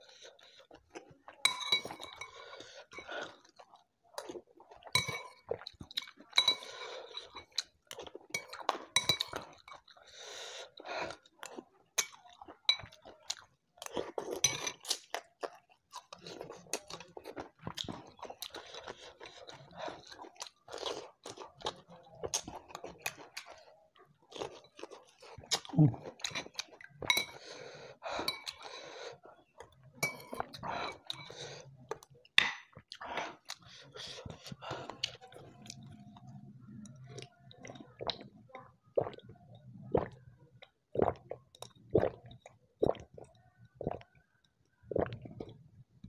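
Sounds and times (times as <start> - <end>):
chewing and crunching vegetables: 0.0 - 45.6.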